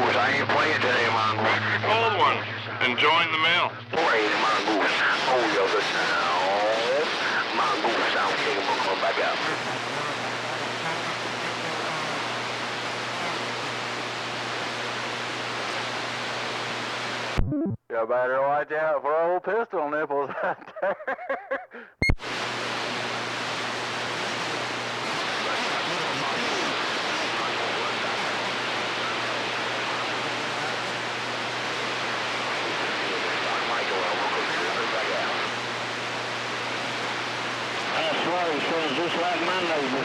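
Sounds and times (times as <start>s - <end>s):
radio static hiss: 0.0s - 18.3s, 22.0s - 40.0s.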